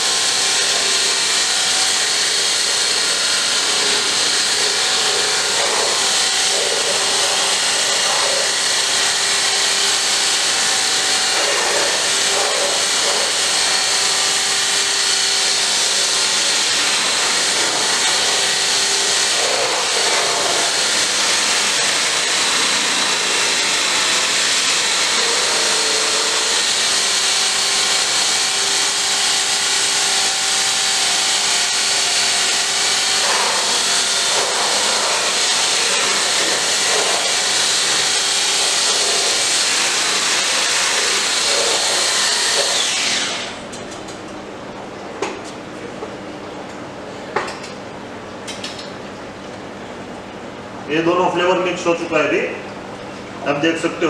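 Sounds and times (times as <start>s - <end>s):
electric hand blender whining: 0.0s - 43.8s.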